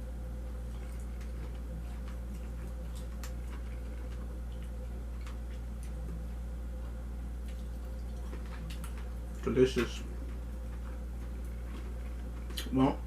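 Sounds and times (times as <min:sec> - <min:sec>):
steady low hum: 0:00.0 - 0:13.0
person chewing food: 0:00.4 - 0:12.7.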